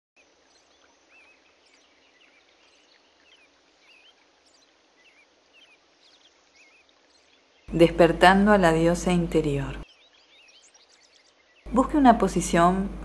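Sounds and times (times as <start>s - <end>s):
soft hiss: 0.2s - 13.0s
birds chirping and whistling: 0.5s - 13.0s.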